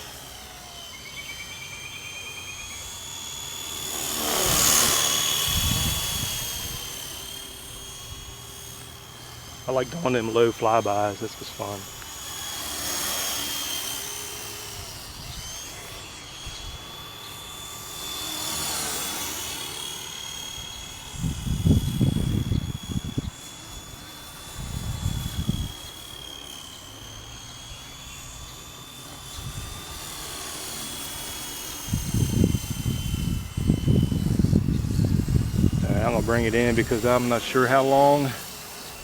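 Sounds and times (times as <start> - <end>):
high-pitched motor whine: 0.0 - 39.0
rushing rotor: 0.0 - 39.0.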